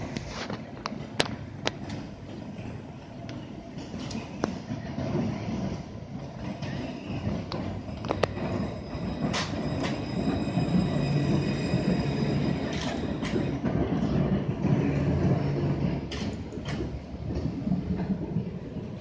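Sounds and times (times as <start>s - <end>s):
tram low hum: 0.0s - 19.0s.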